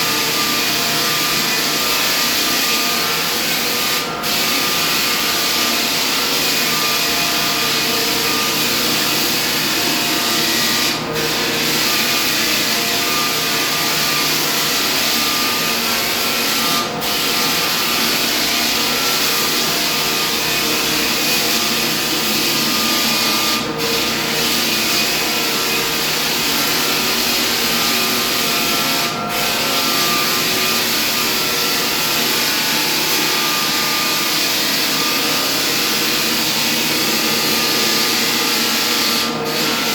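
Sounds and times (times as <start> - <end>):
floor sanding machine running: 0.0 - 39.9.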